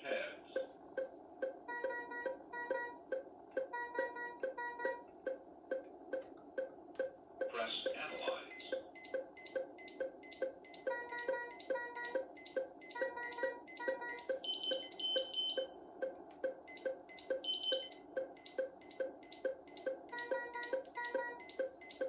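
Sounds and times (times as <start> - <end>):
heart-rate monitor beep: 0.5 - 22.0
two-pitched alarm beeps: 1.4 - 5.8, 7.0 - 15.8, 16.4 - 22.0.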